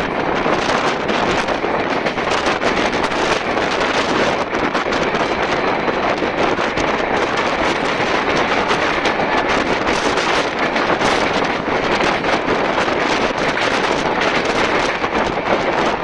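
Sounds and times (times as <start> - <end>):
train running at speed: 0.0 - 16.0
wind buffeting microphone: 0.0 - 16.0.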